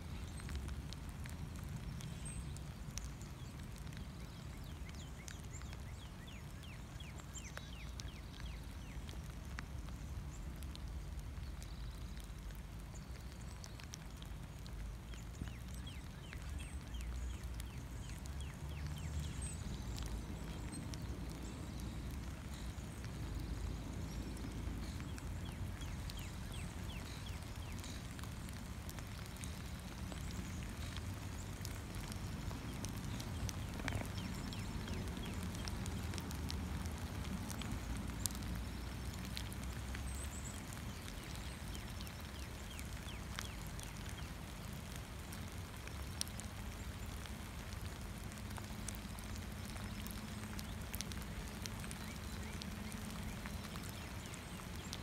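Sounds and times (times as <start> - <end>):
birds chirping faintly: 0.0 - 55.0
light rain pattering: 0.0 - 55.0.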